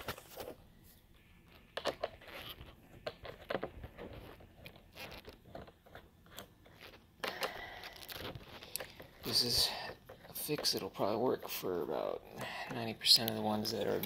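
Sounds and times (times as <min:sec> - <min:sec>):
plastic parts clicking and scraping: 0:01.4 - 0:14.0.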